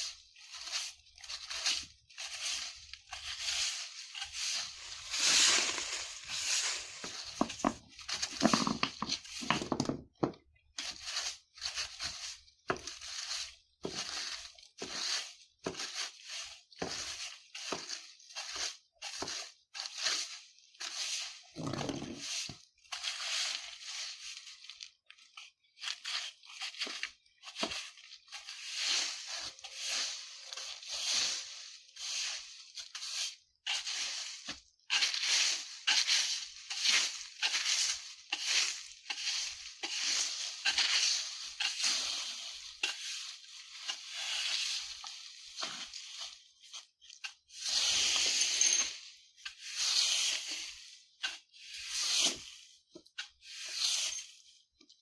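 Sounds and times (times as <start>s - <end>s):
broom sweeping dry leaves: 0.0s - 9.6s, 10.6s - 55.0s.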